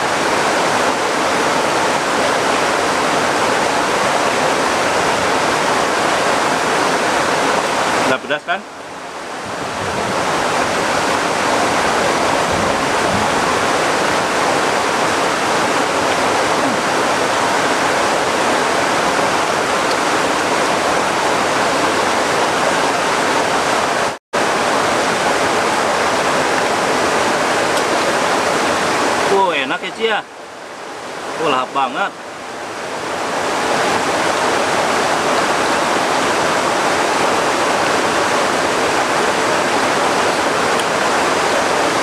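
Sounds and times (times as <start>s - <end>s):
heavy rain downpour: 0.0s - 42.0s.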